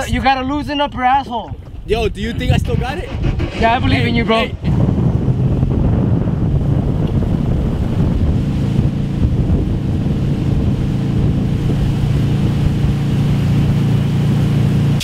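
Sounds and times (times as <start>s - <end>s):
wind on microphone: 0.0s - 15.0s
motorboat engine running: 1.0s - 15.0s.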